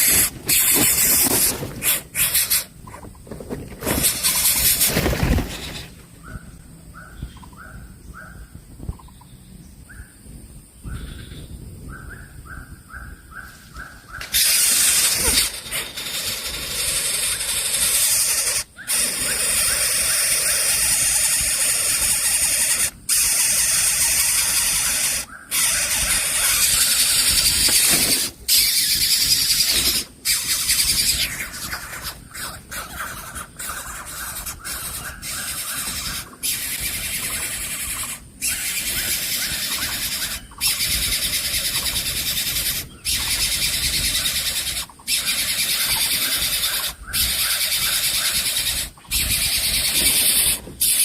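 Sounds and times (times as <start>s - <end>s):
chicks begging with rasping calls: 0.0s - 8.4s, 13.0s - 51.0s.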